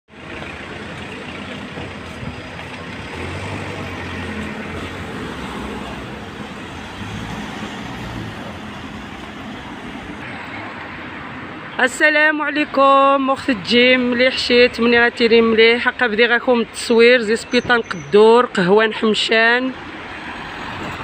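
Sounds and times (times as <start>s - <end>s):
traffic road noise: 0.1s - 21.0s.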